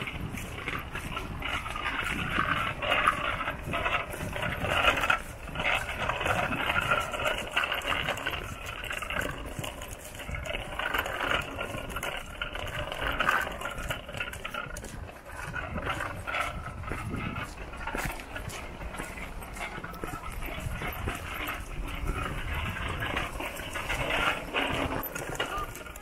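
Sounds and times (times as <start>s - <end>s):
footsteps on pavement: 0.0s - 26.0s.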